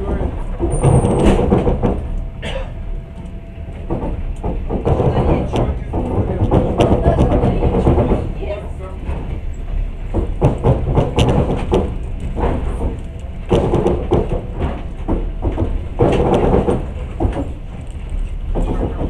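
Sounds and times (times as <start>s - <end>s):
train carriage rumble: 0.0s - 19.0s
wheels knocking and rattling: 0.0s - 19.0s.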